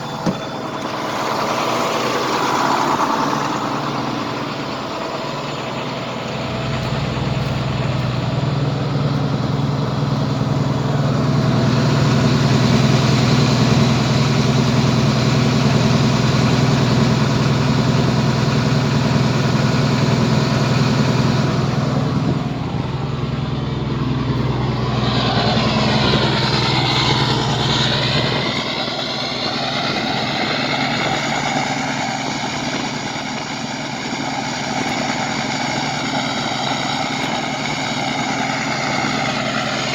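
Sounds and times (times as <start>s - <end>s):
diesel bus engine idling: 0.0s - 39.9s
whirring with shifting pitch: 0.0s - 39.9s.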